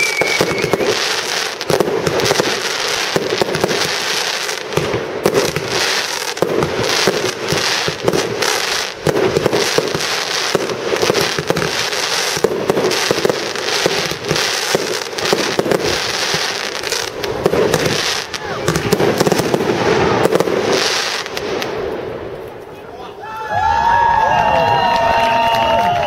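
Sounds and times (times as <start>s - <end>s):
fireworks crackling: 0.0s - 24.1s.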